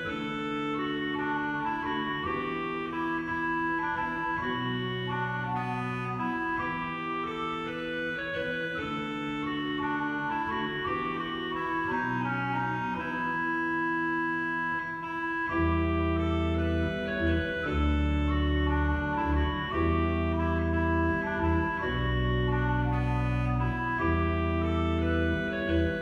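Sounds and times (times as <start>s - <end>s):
church organ sustained notes: 0.0s - 26.0s
deep organ pedal bass notes: 0.0s - 26.0s.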